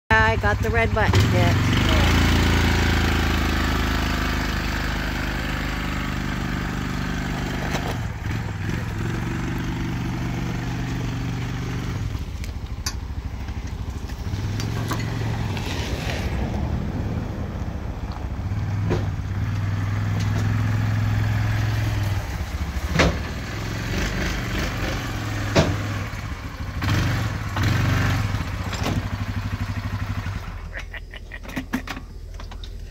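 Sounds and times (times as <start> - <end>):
atv engine running: 0.1 - 32.9.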